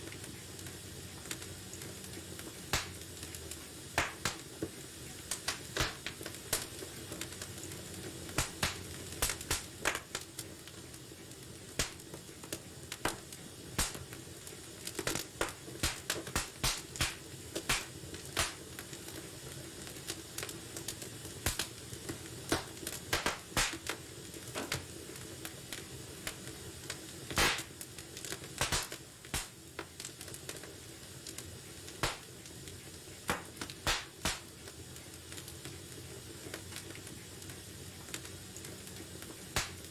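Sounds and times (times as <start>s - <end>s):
soft hiss: 0.0s - 39.9s
wood fire crackling: 0.0s - 39.9s.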